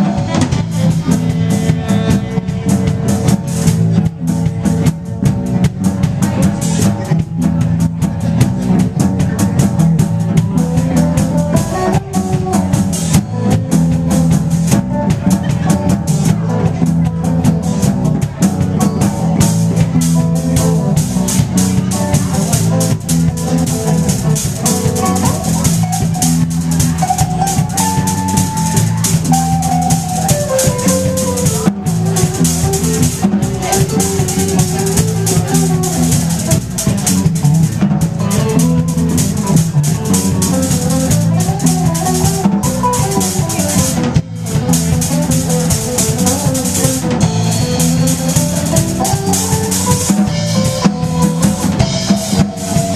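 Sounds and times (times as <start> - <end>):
drum kit with cymbals: 0.0 - 52.9
electric guitar lead line: 0.0 - 52.9.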